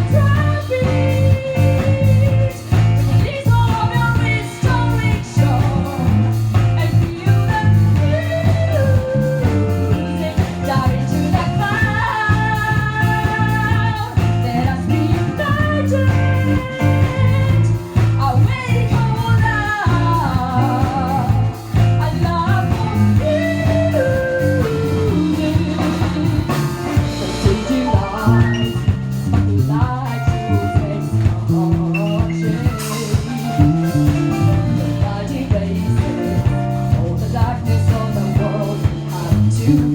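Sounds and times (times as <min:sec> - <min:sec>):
live rock band playing: 0:00.0 - 0:39.9
melodic lead guitar line: 0:00.0 - 0:39.9.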